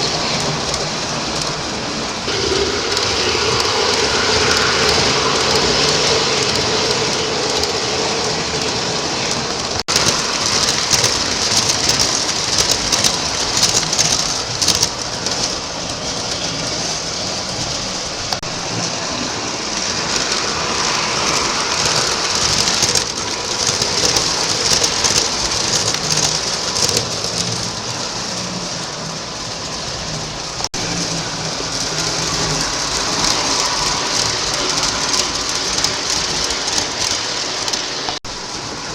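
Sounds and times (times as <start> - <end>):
model train wheels rumbling on rail: 0.0 - 38.9.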